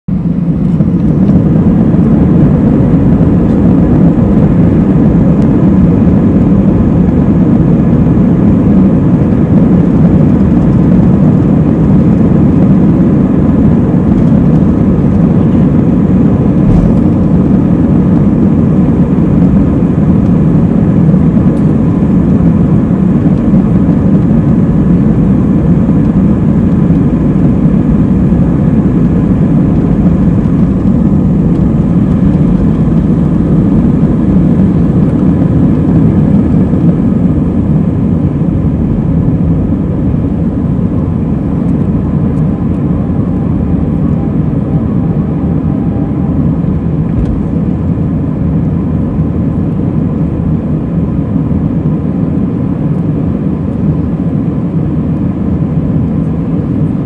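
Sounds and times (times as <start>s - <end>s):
low rumble of engines and wheels: 0.0s - 57.0s
faint hum: 0.1s - 57.0s.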